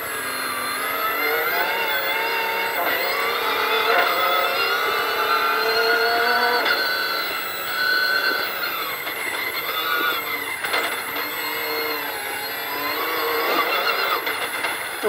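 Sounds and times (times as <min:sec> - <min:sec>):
car engine revving: 0:00.0 - 0:15.0
road and tyre noise: 0:00.0 - 0:15.0.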